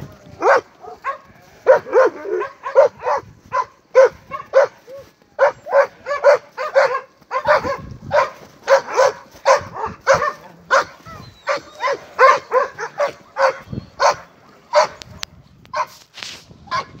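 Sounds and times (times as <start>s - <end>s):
dog barking rapidly: 0.4s - 4.8s, 5.4s - 15.0s, 16.7s - 17.0s.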